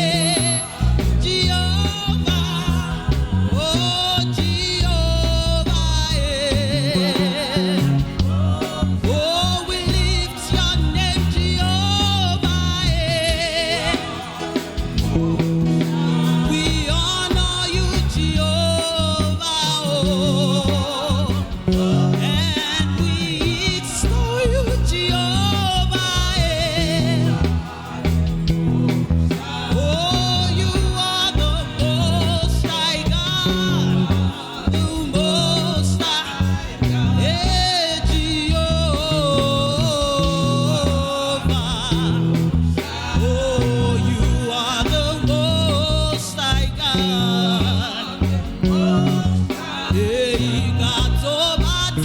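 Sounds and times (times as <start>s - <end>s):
band playing with bass line: 0.0s - 52.0s
live gospel music: 0.0s - 52.0s
person singing with vibrato: 0.0s - 52.0s.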